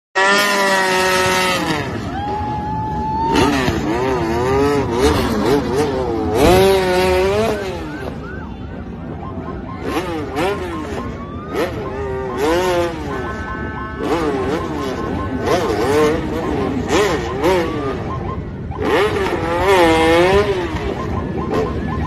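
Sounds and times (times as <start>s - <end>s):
motorcycle engines revving: 0.2s - 22.0s.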